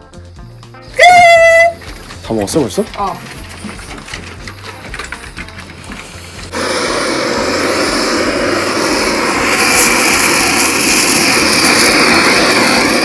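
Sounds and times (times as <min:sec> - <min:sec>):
blowtorch hissing: 0:01.4 - 0:13.0.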